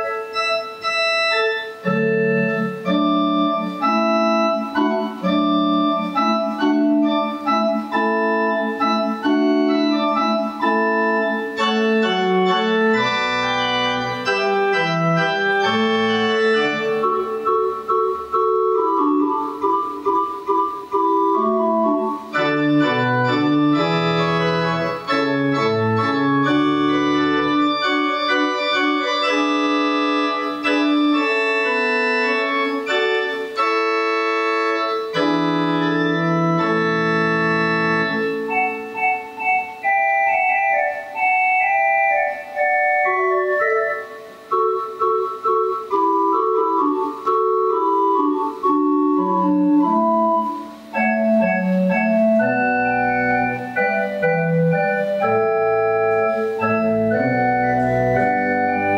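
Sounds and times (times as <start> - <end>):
electronic organ chords: 0.0 - 58.9
low organ pedal bass notes: 0.0 - 58.9.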